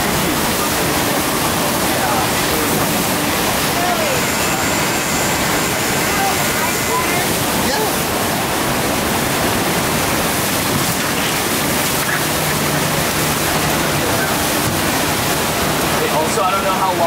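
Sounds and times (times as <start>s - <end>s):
water rushing with loud roar: 0.0s - 17.0s.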